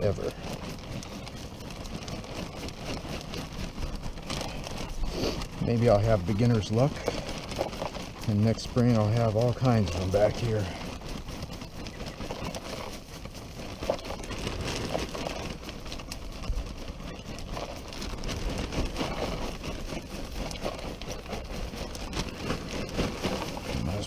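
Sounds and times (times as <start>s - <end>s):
plastic bag crinkling: 0.0s - 24.0s
wood mulch pouring onto ground: 0.0s - 24.0s.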